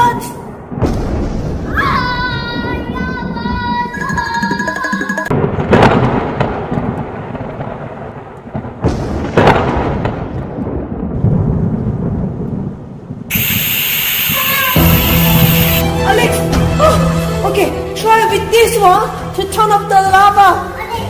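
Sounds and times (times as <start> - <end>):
thunder-like rumbling: 0.0 - 4.6, 5.3 - 19.5.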